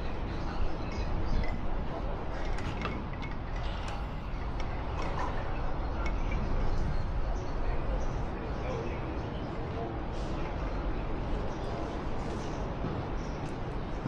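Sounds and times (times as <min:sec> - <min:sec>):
city street ambience: 0:00.0 - 0:14.0.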